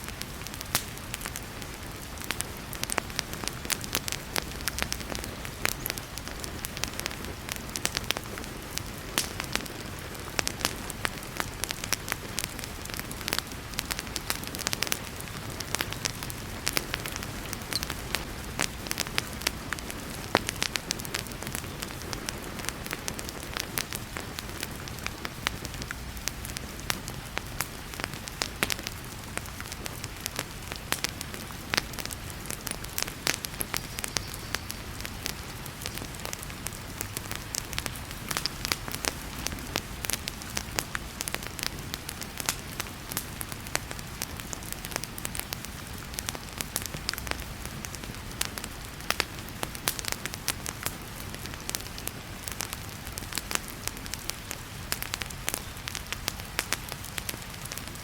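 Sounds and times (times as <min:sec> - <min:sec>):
fireplace crackling and popping: 0:00.0 - 0:58.0.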